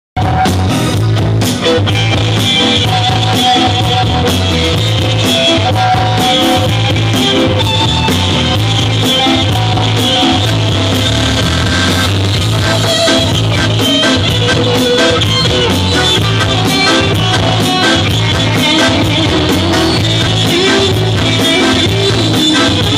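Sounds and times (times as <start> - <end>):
accordion: 0.2 - 22.9
drums: 0.2 - 22.9
electric guitar: 0.2 - 22.9
pulsing electric bass: 0.2 - 22.9.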